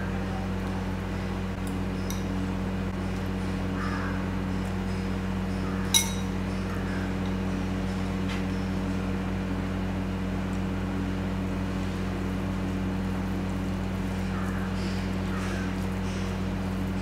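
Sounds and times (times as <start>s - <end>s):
low hum with pitched tones: 0.0s - 17.0s.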